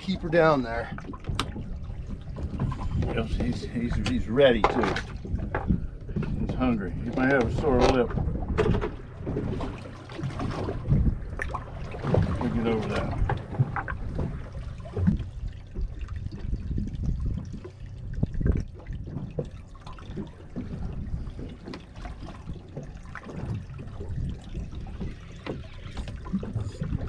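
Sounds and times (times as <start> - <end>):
wind on microphone: 0.0 - 19.5, 23.4 - 27.0
water lapping against boat hull: 0.0 - 27.0.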